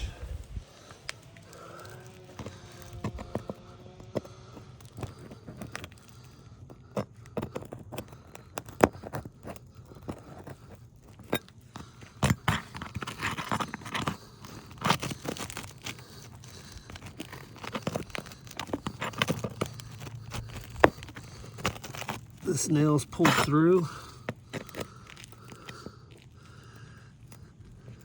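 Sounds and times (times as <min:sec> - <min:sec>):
shingle crunching and scraping: 0:00.0 - 0:28.0.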